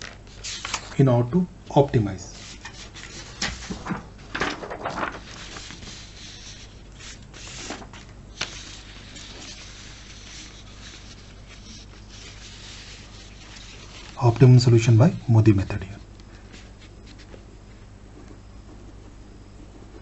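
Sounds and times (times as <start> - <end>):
paper rustling: 0.0 - 1.0, 1.8 - 17.9
faint low hum: 0.0 - 20.0.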